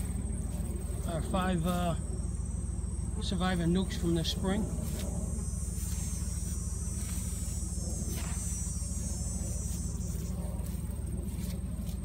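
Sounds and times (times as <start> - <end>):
high insect trill: 0.0 - 12.0
truck engine idling: 0.0 - 12.0.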